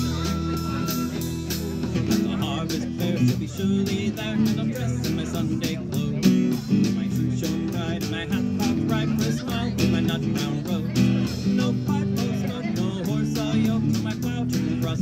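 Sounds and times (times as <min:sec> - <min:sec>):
fiddle: 0:00.0 - 0:14.0
acoustic guitar strumming: 0:00.0 - 0:15.0
drum kit beat: 0:00.0 - 0:15.0
electric bass: 0:00.0 - 0:15.0.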